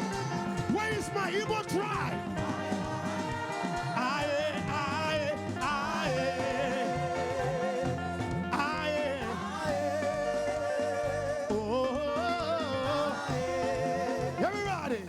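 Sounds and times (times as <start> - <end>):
drum and bass groove: 0.0 - 15.0
person singing with vibrato: 0.0 - 15.0.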